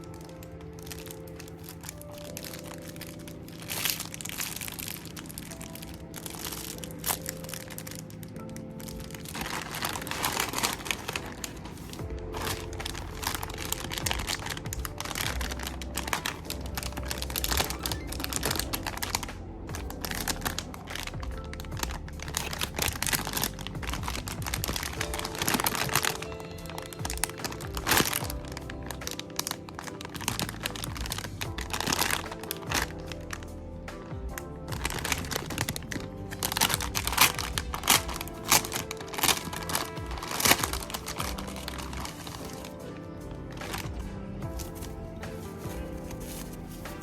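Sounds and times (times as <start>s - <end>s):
background music: 0.0s - 47.0s
plastic packaging crinkling: 0.0s - 47.0s.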